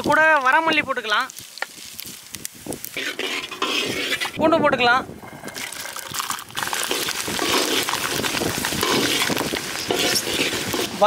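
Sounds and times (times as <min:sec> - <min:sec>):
garlic sizzling in hot oil: 0:00.0 - 0:04.4, 0:05.5 - 0:11.0.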